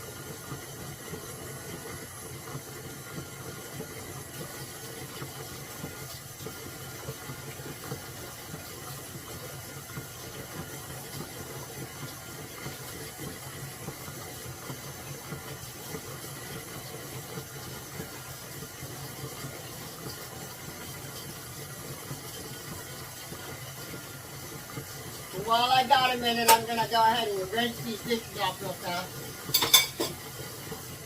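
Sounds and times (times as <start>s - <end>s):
tap water running: 0.0s - 31.0s.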